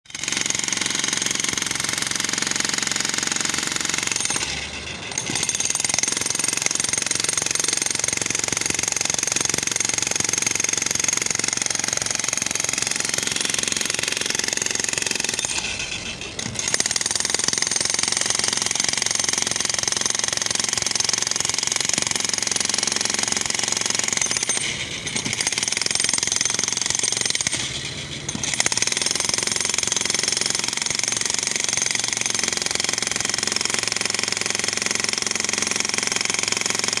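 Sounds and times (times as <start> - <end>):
jackhammer hammering: 0.1 - 37.0.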